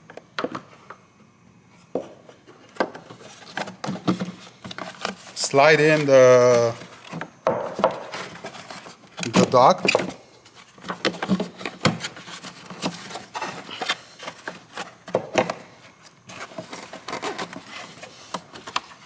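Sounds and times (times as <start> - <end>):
plastic rubbing: 2.8 - 19.0.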